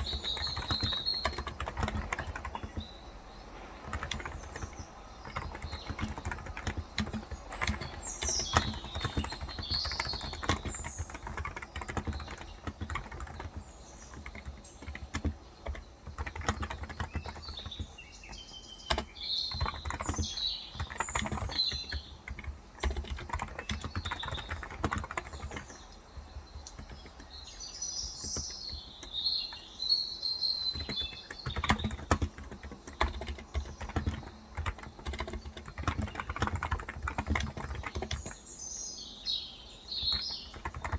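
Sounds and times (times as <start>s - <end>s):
keyboard typing: 0.0s - 29.7s, 30.5s - 38.5s, 39.9s - 40.9s
birds chirping: 0.0s - 40.9s.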